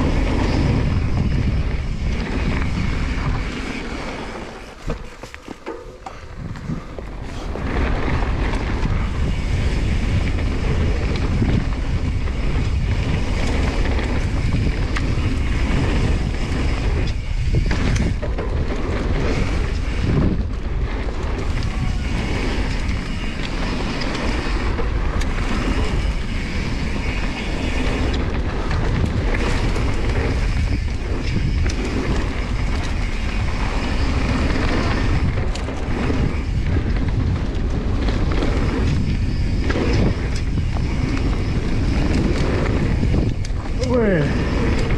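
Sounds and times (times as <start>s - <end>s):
bike rattling over bumps: 0.0s - 44.9s
tyres on gravel trail: 0.0s - 44.9s
wind rushing over microphone: 0.0s - 44.9s.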